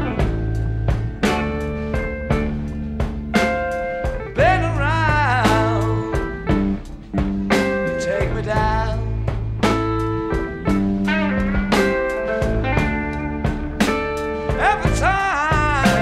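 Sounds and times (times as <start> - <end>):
bass guitar: 0.0 - 16.0
drum kit: 0.0 - 16.0
electric guitar bent notes: 0.0 - 16.0.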